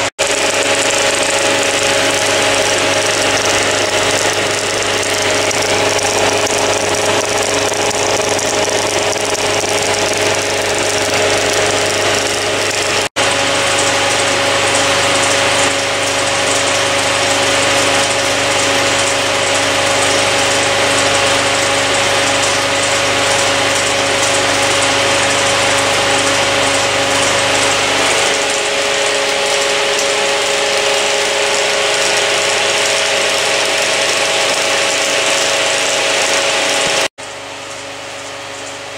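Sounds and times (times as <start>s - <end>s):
film projector whirring: 0.0s - 38.9s
mid-pitched machine tone: 0.0s - 38.9s.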